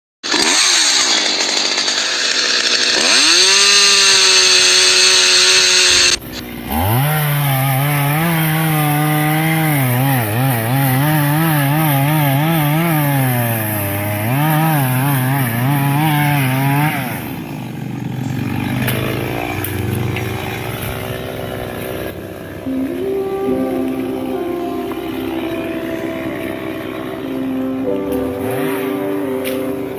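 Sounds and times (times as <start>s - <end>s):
chainsaw running at high revs: 0.2s - 29.9s.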